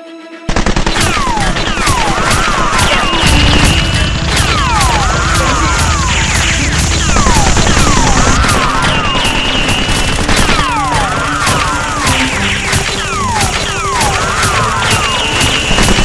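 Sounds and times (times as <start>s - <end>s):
looping action music: 0.1s - 16.0s
gunfire sound effects: 0.5s - 16.0s.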